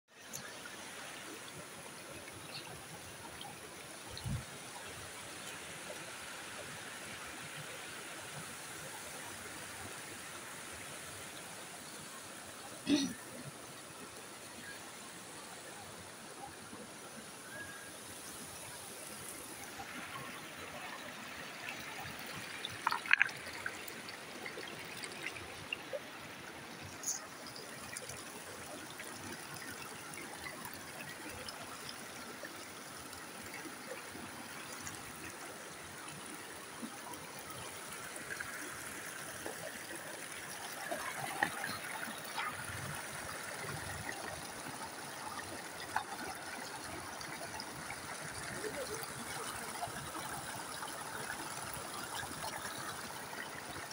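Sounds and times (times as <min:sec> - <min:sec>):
water trickling over rocks: 0:00.1 - 0:53.9.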